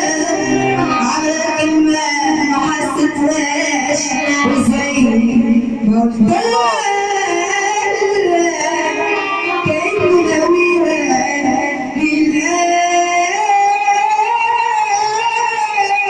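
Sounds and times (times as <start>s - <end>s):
musical accompaniment: 0.0s - 5.8s, 6.4s - 13.4s
woman singing: 0.0s - 16.0s.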